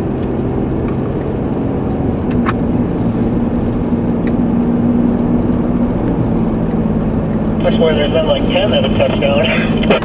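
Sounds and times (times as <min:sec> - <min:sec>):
car engine hum: 0:00.0 - 0:10.0
road noise: 0:00.0 - 0:10.0.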